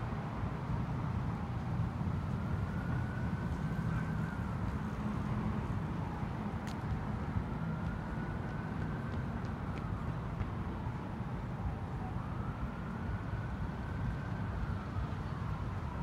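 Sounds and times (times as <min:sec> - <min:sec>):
distant siren wailing: 0:01.1 - 0:16.0.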